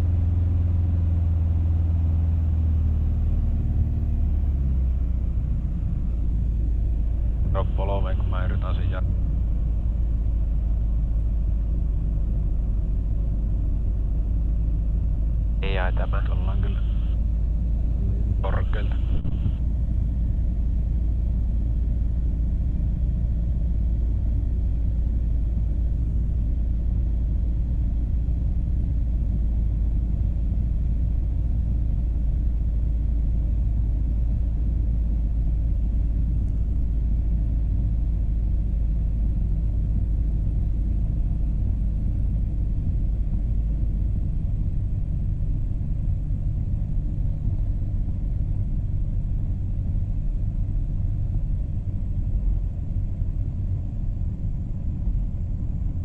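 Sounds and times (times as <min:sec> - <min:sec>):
aircraft engine and propeller droning: 0:00.0 - 0:56.0.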